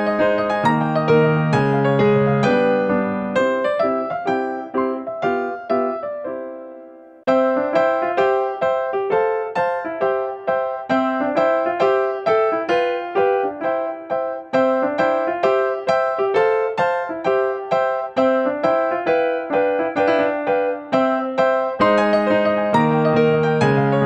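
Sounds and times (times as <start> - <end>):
light keyboard melody: 0.0 - 24.0.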